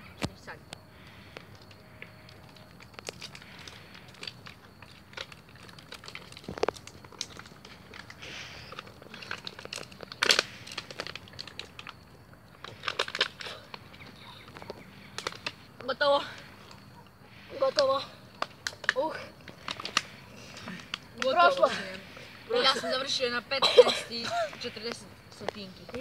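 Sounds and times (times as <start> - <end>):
plastic bottles crinkling: 1.1 - 16.8, 18.3 - 26.0.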